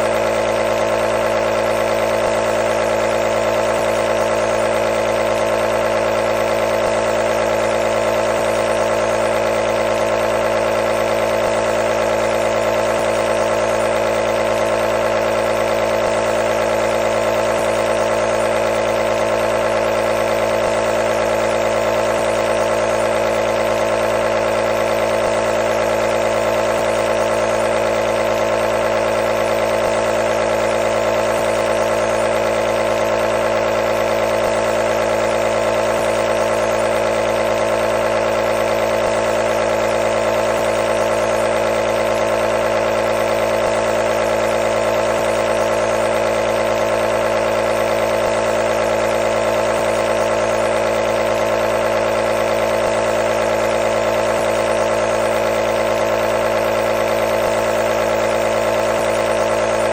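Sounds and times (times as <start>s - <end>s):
nebulizer motor humming: 0.0s - 59.9s.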